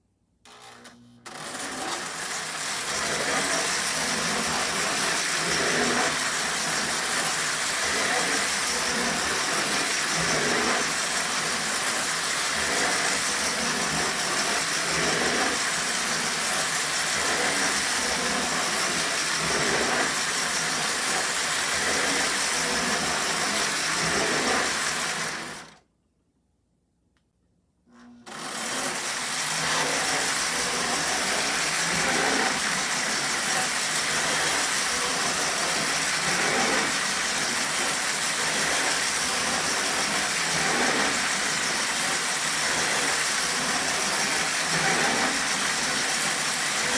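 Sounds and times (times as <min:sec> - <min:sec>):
toy train running on track: 0:00.8 - 0:25.8, 0:28.3 - 0:46.9.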